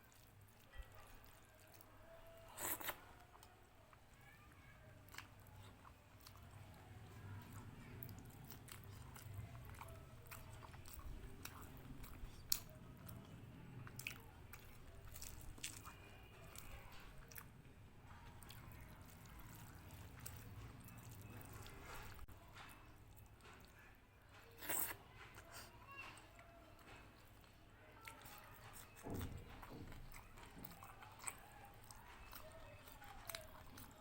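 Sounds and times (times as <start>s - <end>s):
person chewing food: 0.0s - 4.1s, 5.0s - 23.9s, 24.5s - 34.0s
food crunching: 0.0s - 34.0s.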